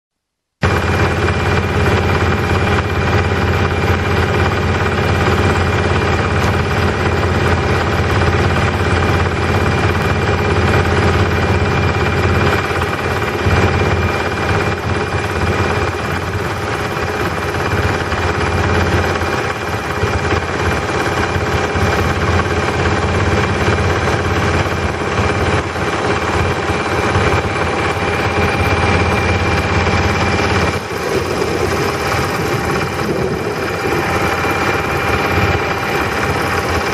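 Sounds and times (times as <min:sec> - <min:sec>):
boat motor droning: 0:00.6 - 0:36.9.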